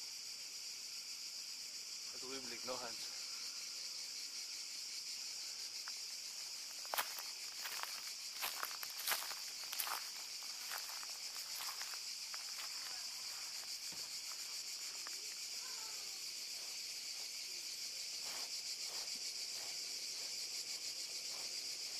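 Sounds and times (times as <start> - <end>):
insects shrilling: 0.0 - 21.9.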